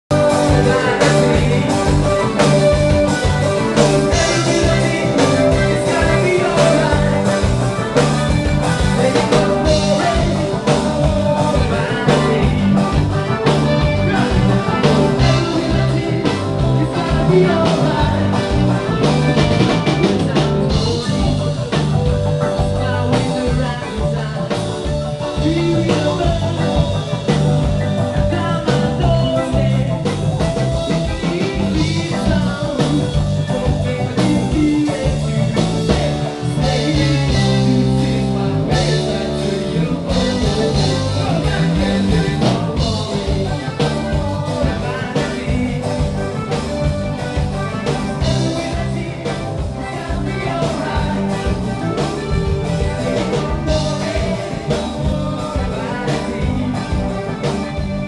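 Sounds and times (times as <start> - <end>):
bass line: 0.0 - 58.0
guitar: 0.0 - 58.0
live reggae band: 0.0 - 58.0
person singing: 0.1 - 58.0
steady drum beat: 0.1 - 58.0.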